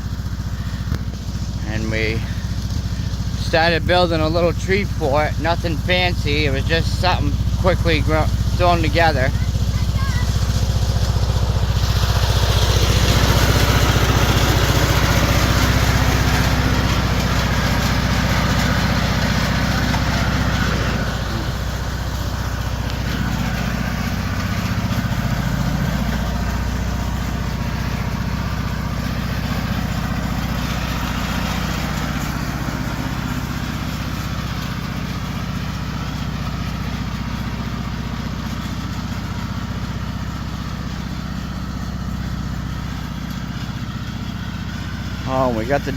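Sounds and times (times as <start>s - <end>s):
riding lawn mower engine: 0.0s - 45.9s.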